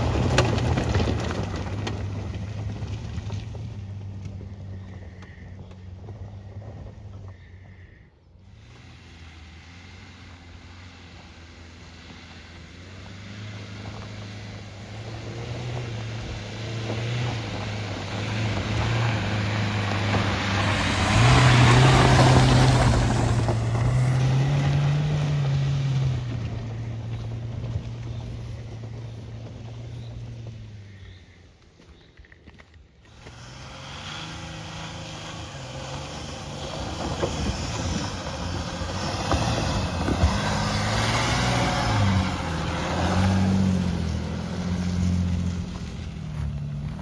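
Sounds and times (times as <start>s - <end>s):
car engine driving: 0.0s - 47.0s
tyres on gravel: 0.0s - 47.0s.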